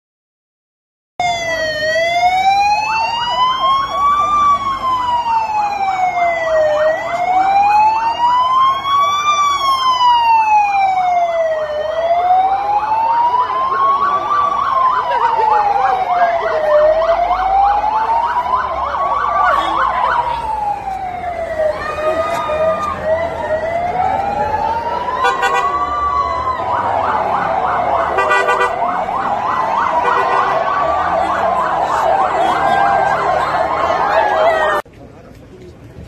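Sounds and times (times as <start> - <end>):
rapidly pulsing siren: 1.2 - 34.8
ambulance siren wailing: 1.2 - 34.9.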